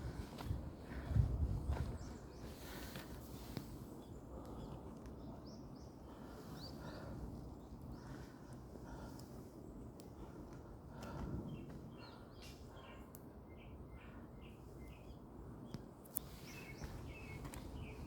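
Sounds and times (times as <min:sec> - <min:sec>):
small birds chirping: 0:00.9 - 0:18.0.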